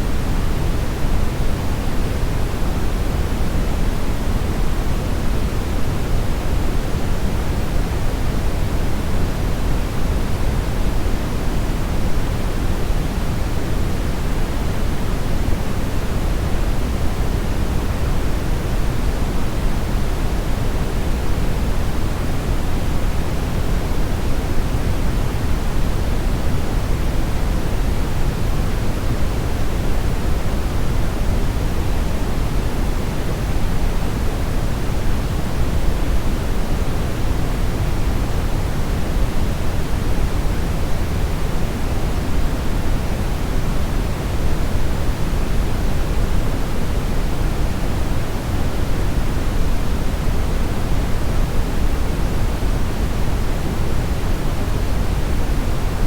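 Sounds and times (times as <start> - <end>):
steady low brown noise hiss: 0.0 - 56.0.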